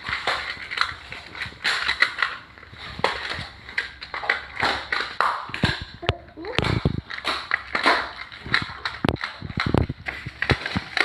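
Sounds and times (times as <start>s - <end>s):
plastic tiles clicking and clattering: 0.0s - 11.0s.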